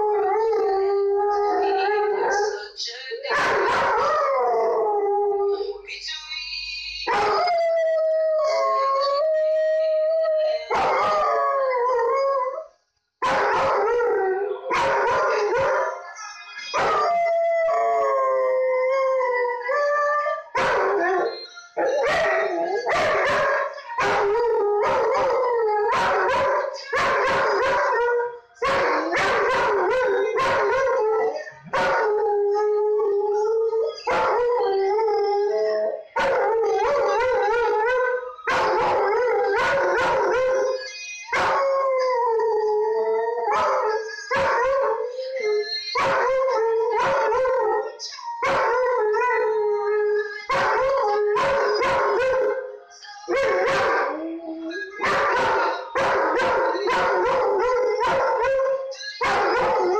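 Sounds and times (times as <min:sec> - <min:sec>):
song from a tablet: 0:05.4 - 0:18.3, 0:18.9 - 0:59.9
dog howling: 0:07.1 - 0:12.6, 0:16.8 - 0:52.7, 0:53.3 - 0:59.9.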